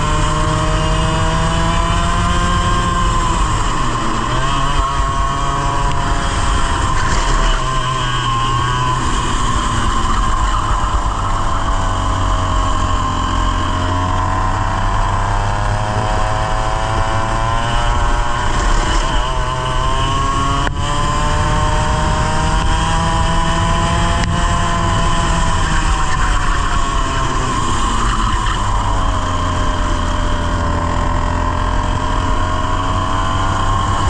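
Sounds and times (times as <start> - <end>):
kart engine revving: 0.0 - 34.0.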